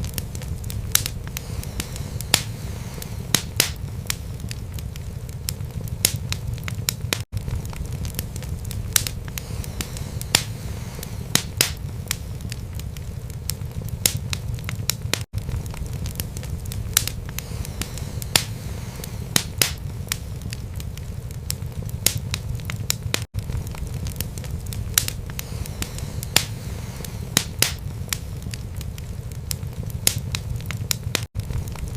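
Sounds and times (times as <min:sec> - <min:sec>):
low rumble of flames: 0:00.0 - 0:31.9
wood fire crackling and popping: 0:00.0 - 0:31.9.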